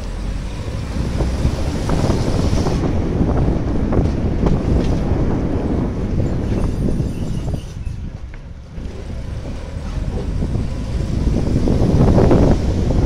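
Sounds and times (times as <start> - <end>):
car engine and road noise: 0.0 - 13.0
wind buffeting microphone: 0.1 - 13.0.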